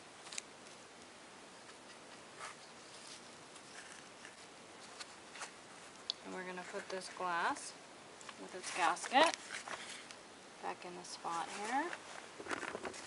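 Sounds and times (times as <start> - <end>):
low steady hiss: 0.0 - 13.0
faint rustling: 1.6 - 10.2, 11.1 - 13.0.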